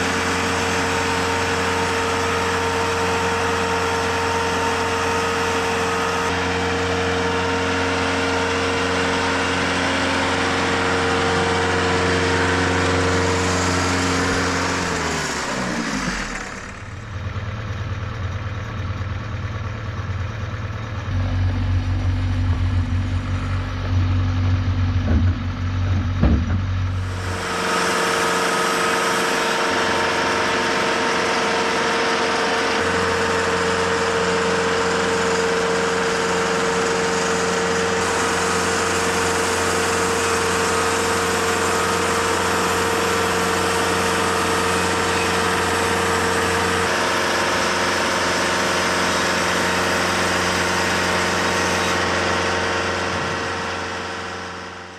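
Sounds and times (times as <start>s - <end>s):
deep engine sound with knocks: 0.0s - 54.9s
engine running: 0.0s - 54.9s.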